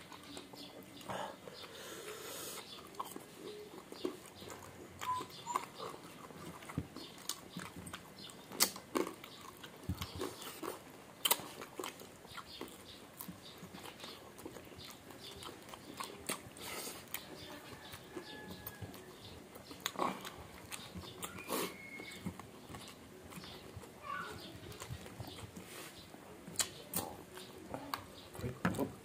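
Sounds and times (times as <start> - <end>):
people chewing crispy food: 0.0 - 29.0
sharp clicks and wet smacks: 2.6 - 25.6, 26.4 - 29.0.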